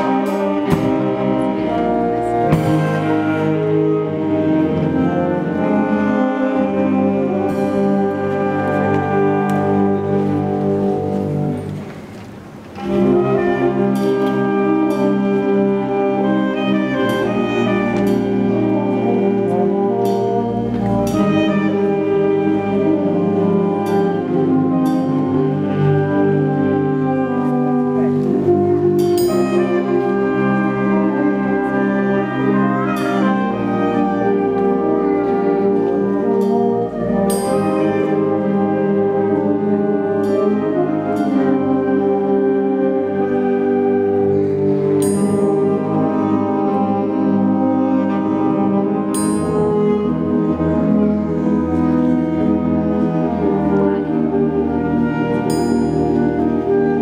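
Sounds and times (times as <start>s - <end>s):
alto saxophone melody: 0.0s - 57.0s
wind band playing slow aria: 0.0s - 57.0s.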